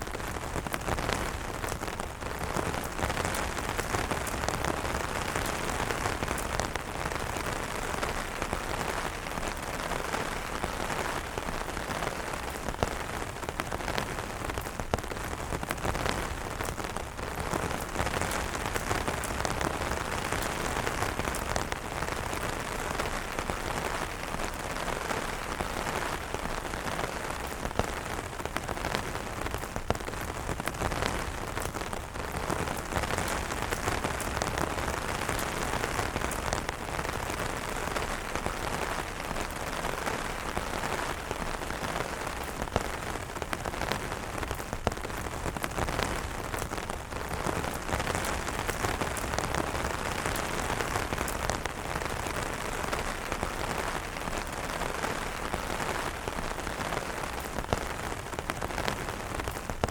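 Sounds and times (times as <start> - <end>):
rain on umbrellas: 0.0 - 59.9.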